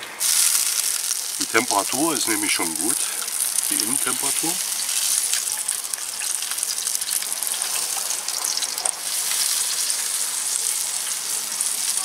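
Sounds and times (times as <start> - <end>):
glaze sizzling on chicken: 0.0 - 12.0.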